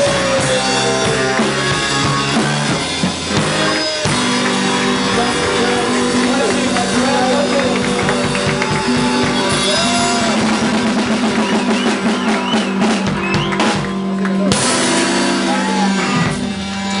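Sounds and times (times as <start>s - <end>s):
rock music with drum kit: 0.0s - 17.0s.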